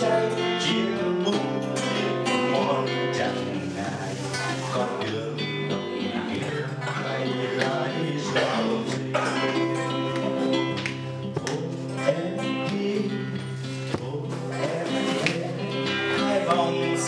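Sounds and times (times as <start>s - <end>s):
man singing: 0.0s - 17.0s
strummed acoustic guitar: 0.0s - 17.0s.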